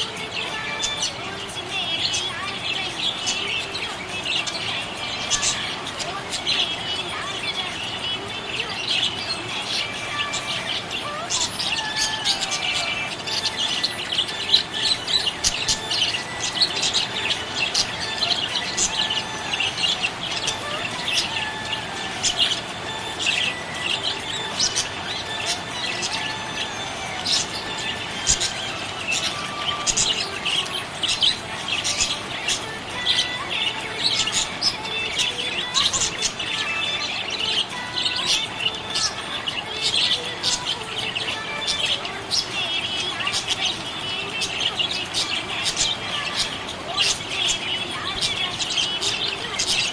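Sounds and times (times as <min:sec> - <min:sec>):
budgerigars chirping: 0:00.0 - 0:49.9.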